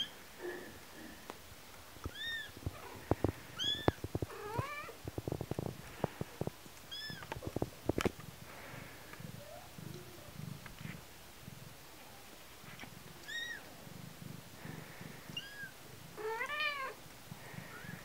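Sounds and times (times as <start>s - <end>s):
soft clicks and rustles: 1.1s - 18.0s.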